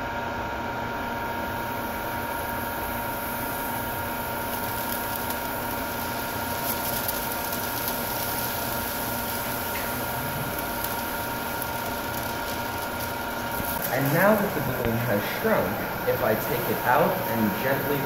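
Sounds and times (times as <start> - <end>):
ventilation hum: 0.0 - 18.0
liquid nitrogen hissing: 0.9 - 18.0
balloon crackling: 3.2 - 18.0.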